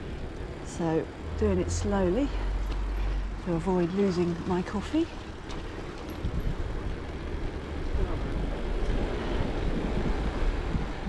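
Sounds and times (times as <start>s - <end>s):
bike tyres on road: 0.0s - 11.0s
wind buffeting microphone: 0.0s - 11.0s.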